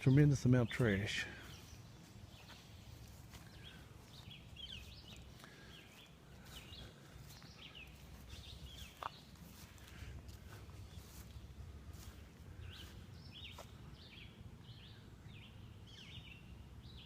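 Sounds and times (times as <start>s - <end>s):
faint birds chirping: 0.0s - 17.0s
low outdoor rumble: 0.0s - 17.0s.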